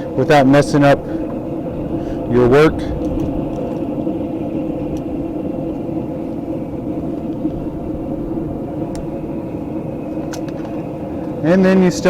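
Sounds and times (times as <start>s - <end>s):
forge roaring: 0.0s - 12.0s.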